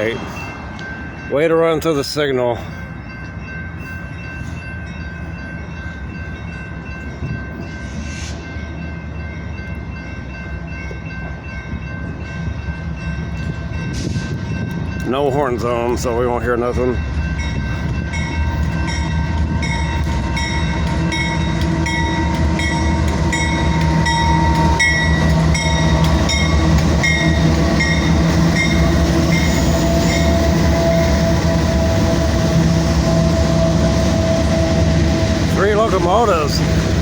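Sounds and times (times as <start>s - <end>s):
diesel locomotive engine drone: 0.0s - 37.0s
locomotive bell dinging: 0.0s - 37.0s.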